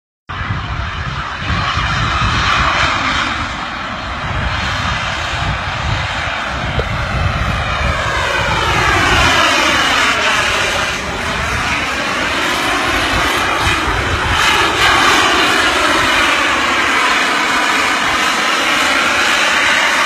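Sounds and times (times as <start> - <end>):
jet turbines running loudly: 0.3 - 20.0.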